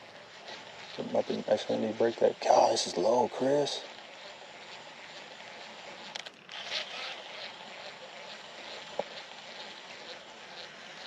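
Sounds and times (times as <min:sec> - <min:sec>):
faint regular pulsing: 0:00.0 - 0:11.0
outdoor background hiss: 0:00.0 - 0:11.0.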